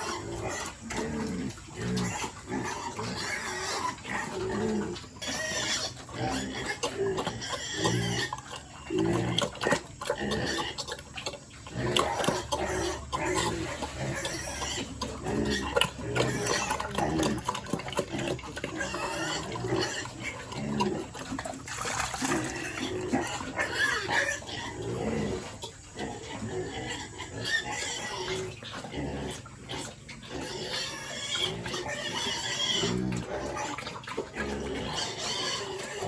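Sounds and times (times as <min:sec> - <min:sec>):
pigs grunting: 0:00.0 - 0:36.0.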